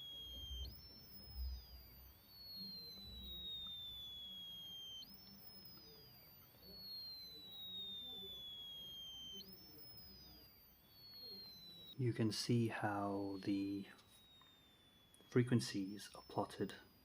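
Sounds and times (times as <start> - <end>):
high-pitched electronic whine: 0.0 - 17.0.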